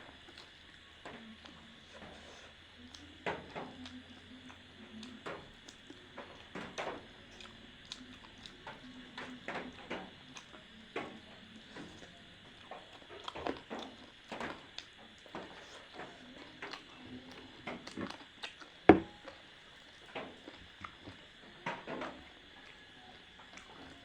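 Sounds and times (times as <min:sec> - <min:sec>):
person chewing and smacking: 0:00.0 - 0:09.5, 0:10.1 - 0:21.4, 0:22.3 - 0:24.0.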